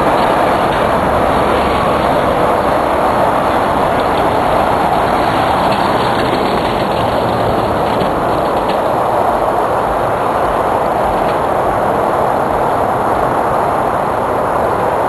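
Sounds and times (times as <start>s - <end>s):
cart wheels rumbling: 0.0s - 14.9s.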